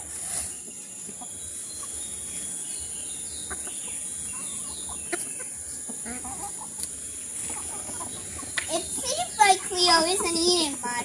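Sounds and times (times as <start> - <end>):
falling bird chirps: 0.0 - 10.2.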